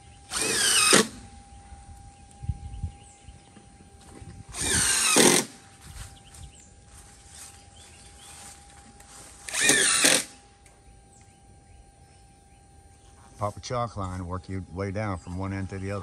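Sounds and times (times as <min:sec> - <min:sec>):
power drill motor whine: 0:00.0 - 0:16.0.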